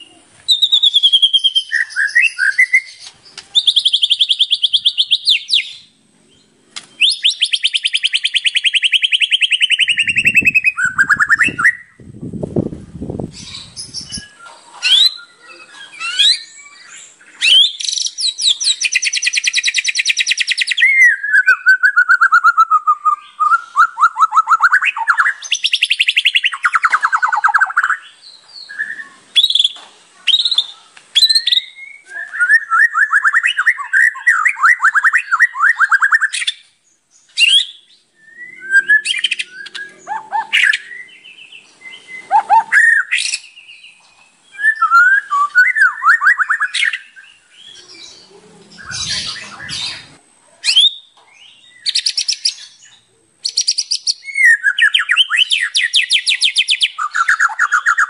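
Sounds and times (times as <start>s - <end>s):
songbird whistles and trills: 0.0s - 12.1s, 13.3s - 58.0s.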